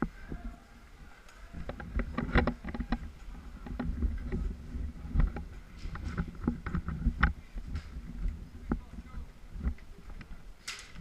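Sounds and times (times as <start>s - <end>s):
irregular clicks and knocks: 1.3s - 8.9s, 9.6s - 11.0s.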